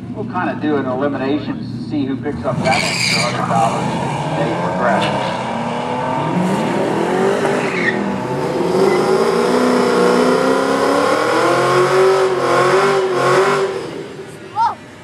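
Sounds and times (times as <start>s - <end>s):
racing car engines at full throttle: 0.0s - 15.0s.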